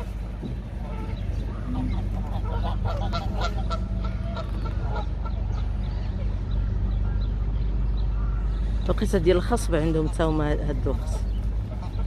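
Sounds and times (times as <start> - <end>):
steady low rumble: 0.0 - 12.0
waterbirds honking: 0.0 - 12.0.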